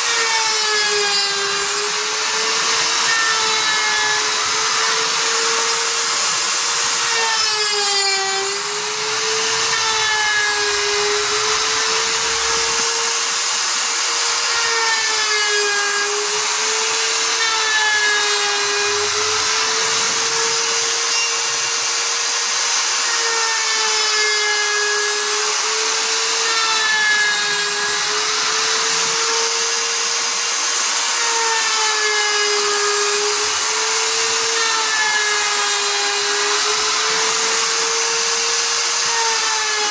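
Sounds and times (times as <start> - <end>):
hiss of wood cutting: 0.0 - 39.9
router motor cutting wood: 0.0 - 39.9.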